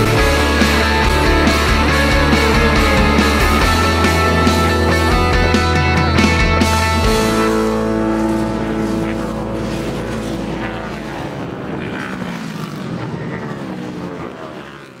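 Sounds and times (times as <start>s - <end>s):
racing motorcycle engines passing: 0.0s - 15.0s.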